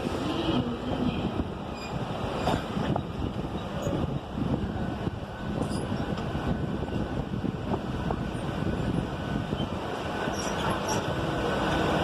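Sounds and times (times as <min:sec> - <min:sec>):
train rumble inside coach: 0:00.0 - 0:12.0.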